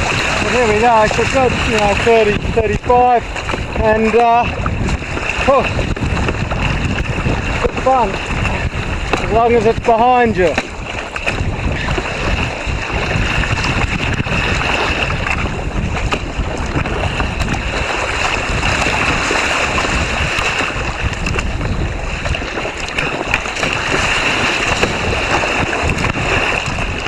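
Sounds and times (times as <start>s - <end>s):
water rushing around kayak: 0.0s - 27.0s
wind buffeting microphone: 0.0s - 27.0s.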